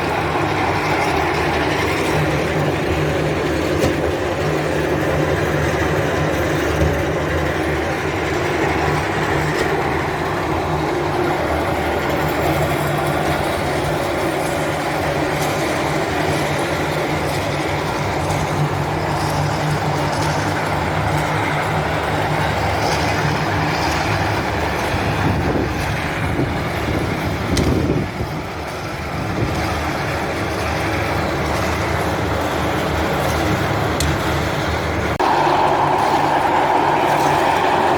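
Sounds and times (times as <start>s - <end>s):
diesel engine running: 0.0s - 28.2s, 34.7s - 37.9s.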